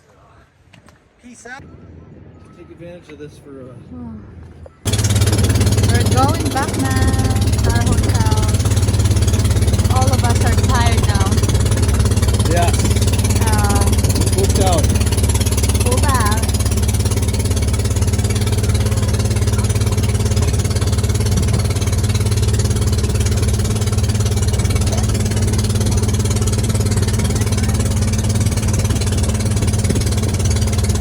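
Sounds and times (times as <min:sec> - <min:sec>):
motorboat engine running: 0:04.3 - 0:31.0.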